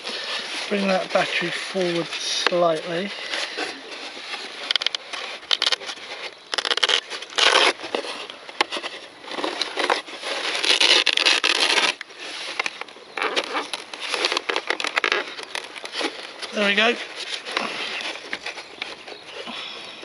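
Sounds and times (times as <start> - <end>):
rustling and scraping: 0.0 - 20.0.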